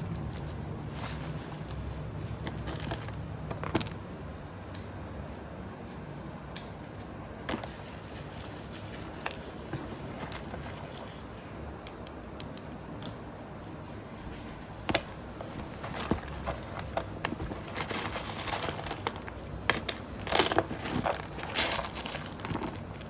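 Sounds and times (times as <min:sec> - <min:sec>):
slate pencils crunching: 0:00.0 - 0:04.0, 0:07.3 - 0:13.1, 0:14.2 - 0:23.0.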